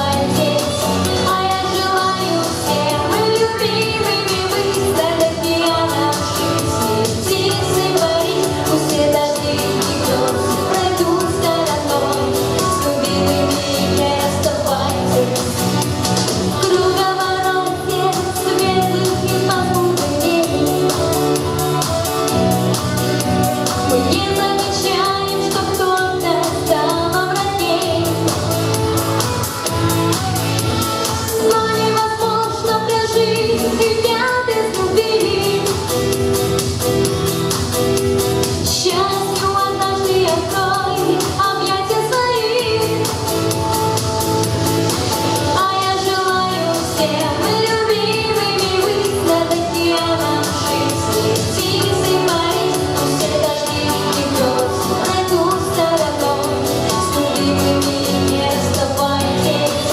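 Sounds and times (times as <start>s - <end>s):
person singing: 0.0s - 36.4s, 38.6s - 43.9s, 45.1s - 59.9s
instrumental accompaniment with beat: 0.0s - 59.9s.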